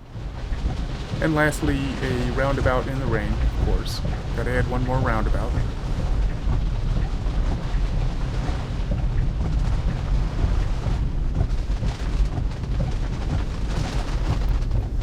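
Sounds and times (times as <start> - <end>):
rain and spray hiss: 0.0 - 15.0
tyres rumbling on wet road: 0.0 - 15.0.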